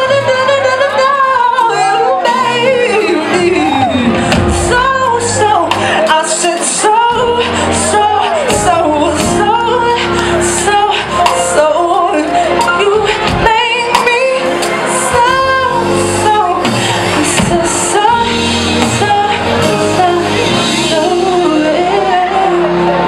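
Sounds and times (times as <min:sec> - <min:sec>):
bass: 0:00.0 - 0:23.0
live soul band: 0:00.0 - 0:23.0
woman singing with vibrato: 0:00.0 - 0:23.0.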